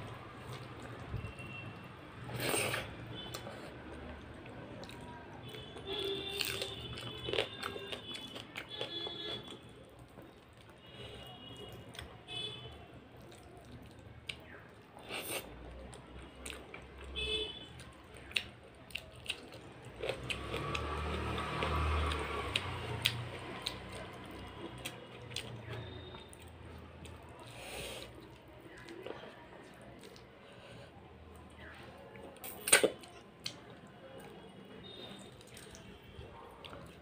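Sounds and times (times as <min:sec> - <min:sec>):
chewing: 0:00.0 - 0:11.2, 0:13.2 - 0:17.0, 0:17.7 - 0:37.0.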